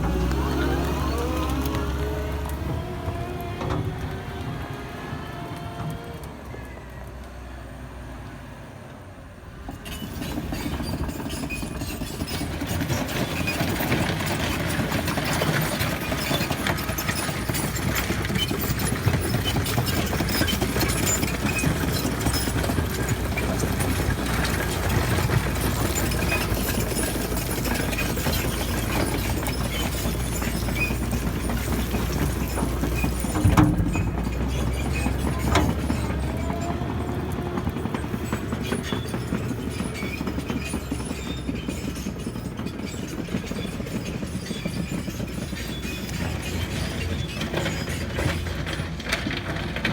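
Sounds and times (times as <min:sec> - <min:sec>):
diesel engine running: 0:00.0 - 0:49.9
knocks and clatters: 0:09.7 - 0:49.9.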